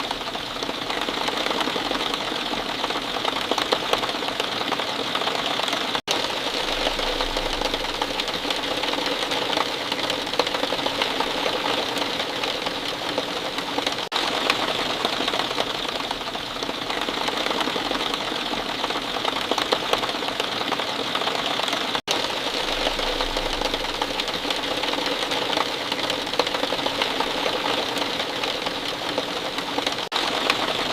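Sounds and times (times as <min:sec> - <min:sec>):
rain patter: 0:00.0 - 0:30.9.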